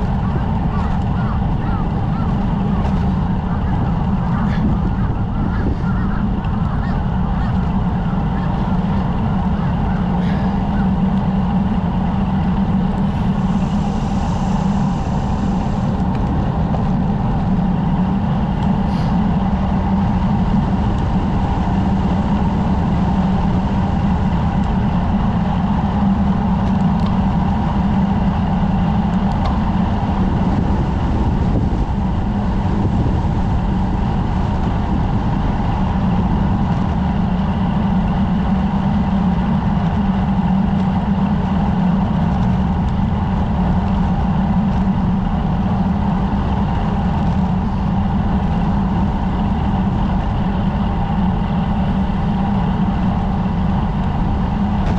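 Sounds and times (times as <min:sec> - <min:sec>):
bicycle road noise: 0:00.0 - 0:54.9
wind rumble on microphone: 0:00.0 - 0:54.9.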